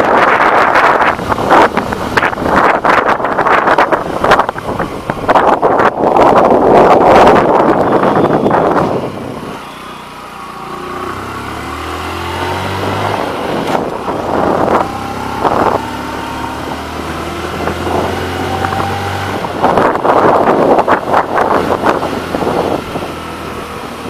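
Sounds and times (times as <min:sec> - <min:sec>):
wind buffeting microphone: 0:00.0 - 0:09.6, 0:11.1 - 0:24.0
motorcycle engine pulling uphill: 0:00.0 - 0:24.0.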